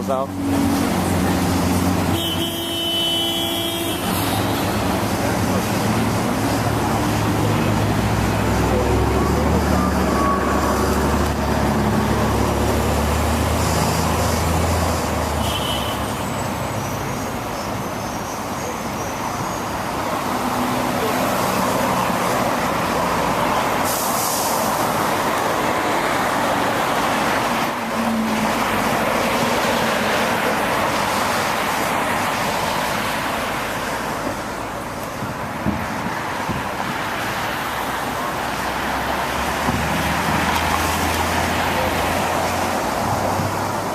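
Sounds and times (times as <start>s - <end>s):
heavy vehicle engine rumble: 0.0s - 2.2s, 3.3s - 43.9s
city street traffic: 0.0s - 43.9s.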